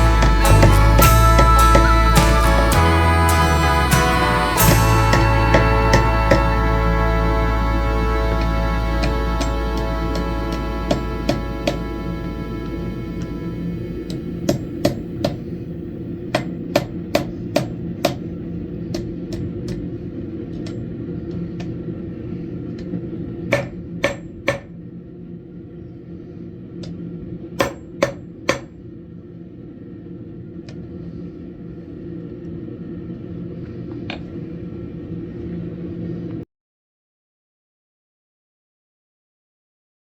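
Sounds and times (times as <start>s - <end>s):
steady hum: 0.0s - 36.4s.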